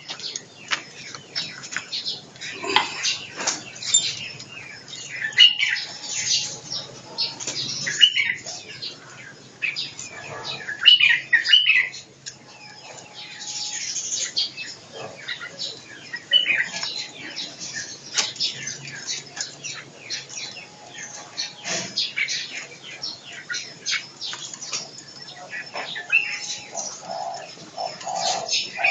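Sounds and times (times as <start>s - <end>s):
songbirds chirping and calling: 0.0s - 28.9s.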